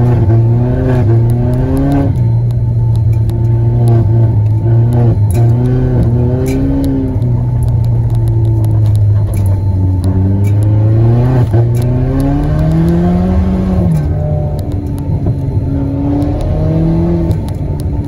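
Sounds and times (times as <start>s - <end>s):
car engine from inside cabin: 0.0s - 18.0s
sharp clicks: 0.0s - 18.0s.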